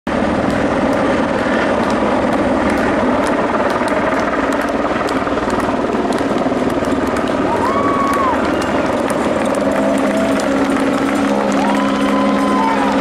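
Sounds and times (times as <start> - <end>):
motor engine droning: 0.1 - 13.0.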